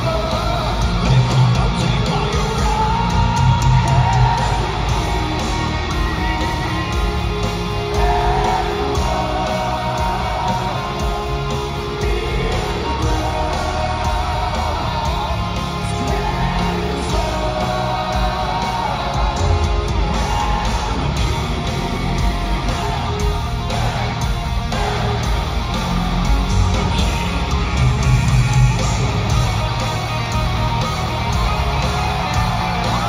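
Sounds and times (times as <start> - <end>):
heavy metal band playing live: 0.0 - 33.0.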